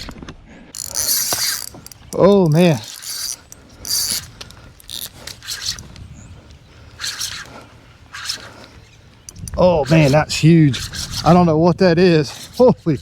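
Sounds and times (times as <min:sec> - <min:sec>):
fishing reel drag buzzing: 0:00.8 - 0:11.4.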